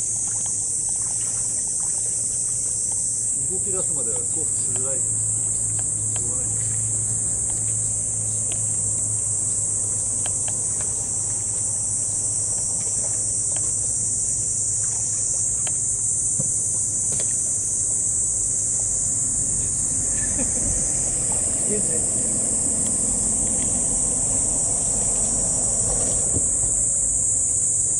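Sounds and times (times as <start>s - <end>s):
insect chorus drone: 0.0s - 27.9s
low hum: 0.0s - 27.9s.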